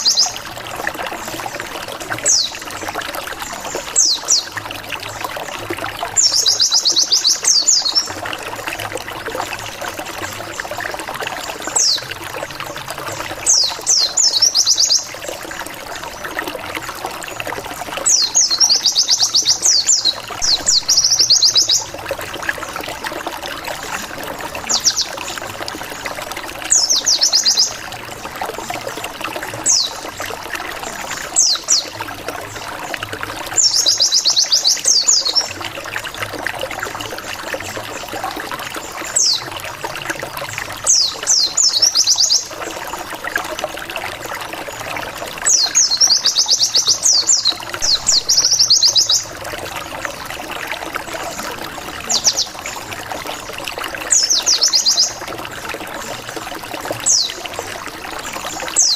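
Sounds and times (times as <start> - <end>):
trickling water: 0.0 - 58.9.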